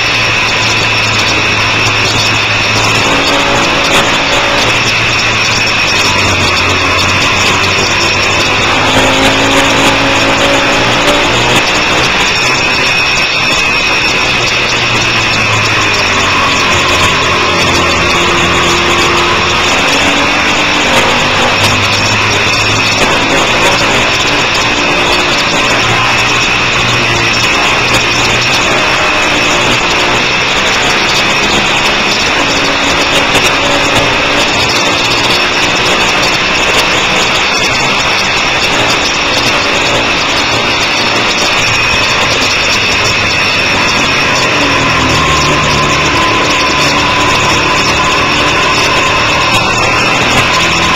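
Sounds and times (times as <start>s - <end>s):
motorcycle engine accelerating: 0.0s - 50.9s
wind rush on microphone: 0.0s - 50.9s.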